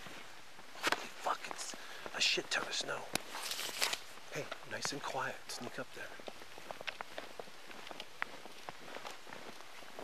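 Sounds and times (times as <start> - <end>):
footsteps crunching in snow: 0.0 - 10.0.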